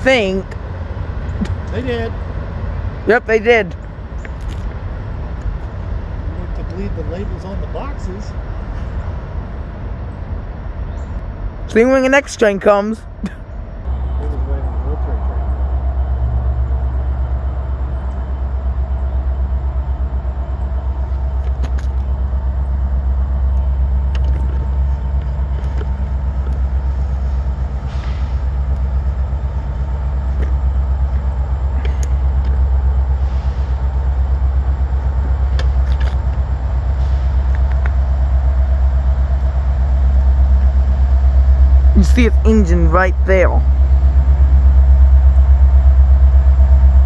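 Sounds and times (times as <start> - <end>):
diesel locomotive engine rumble: 0.0 - 47.0.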